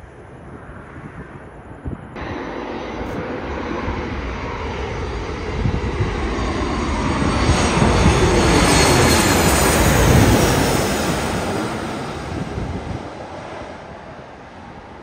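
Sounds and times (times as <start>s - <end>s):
jet airliner roar overhead: 0.0s - 15.0s.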